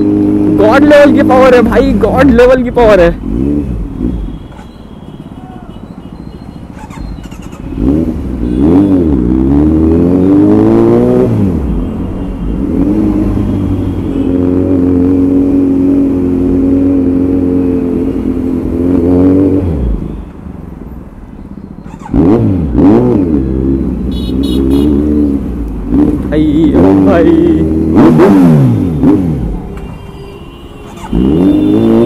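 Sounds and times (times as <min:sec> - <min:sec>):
motorcycle engine revving: 0:00.0 - 0:04.7, 0:06.7 - 0:20.1, 0:21.8 - 0:30.0, 0:30.8 - 0:32.0.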